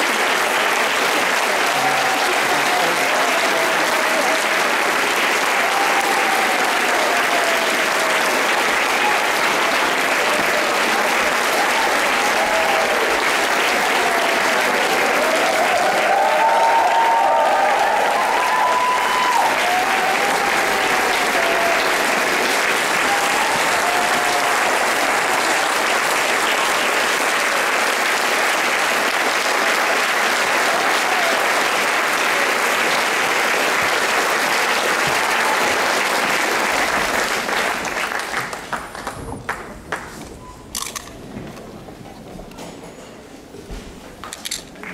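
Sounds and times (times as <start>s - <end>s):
audience applauding: 0.0s - 41.1s, 44.4s - 44.9s.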